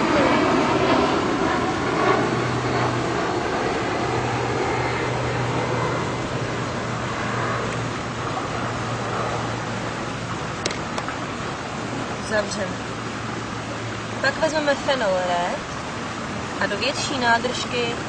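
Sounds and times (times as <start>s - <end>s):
low hum: 0.0s - 17.6s
steady rushing noise: 0.0s - 18.0s.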